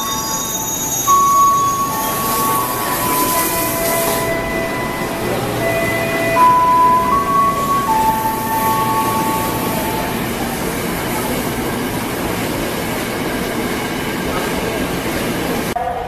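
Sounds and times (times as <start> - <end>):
train wheels rushing on rail: 0.0 - 15.8.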